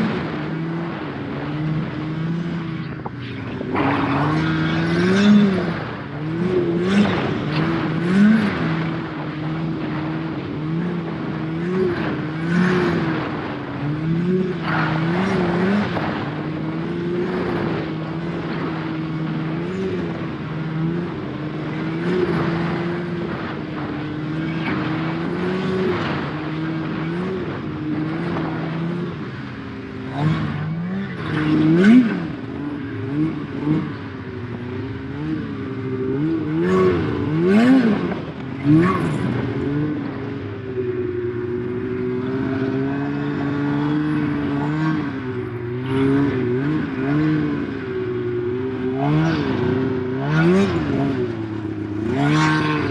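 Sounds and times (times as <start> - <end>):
snowmobile engine revving: 0.0 - 52.9.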